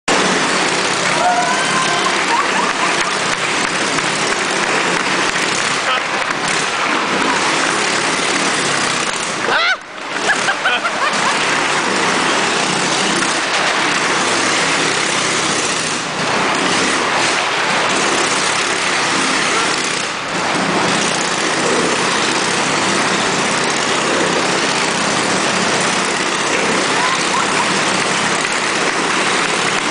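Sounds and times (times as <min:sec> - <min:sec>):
motorcycle engine running hard: 0:00.0 - 0:29.9.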